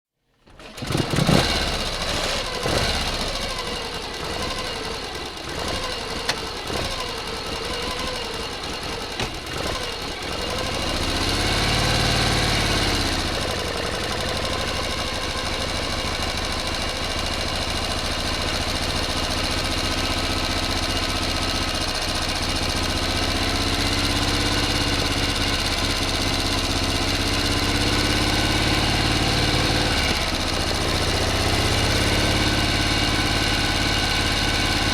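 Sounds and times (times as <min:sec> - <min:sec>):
motor engine revving and idling: 0:00.5 - 0:34.9.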